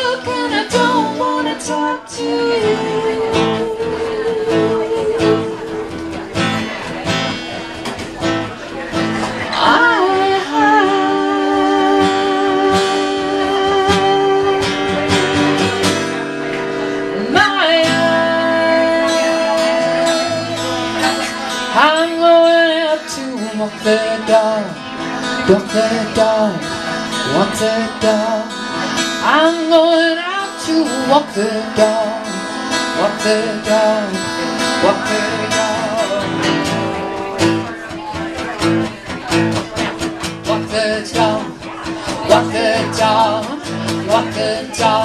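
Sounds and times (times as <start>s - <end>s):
acoustic guitar strummed: 0.0s - 45.0s.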